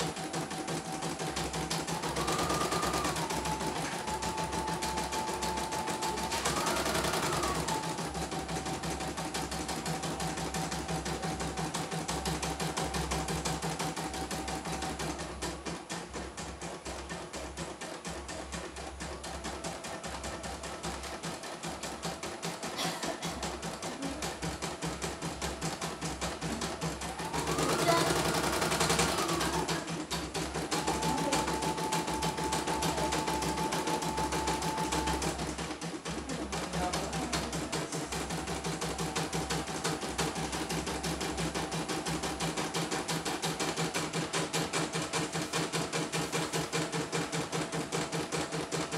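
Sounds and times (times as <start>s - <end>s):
embroidery machine stitching: 0.0s - 48.9s.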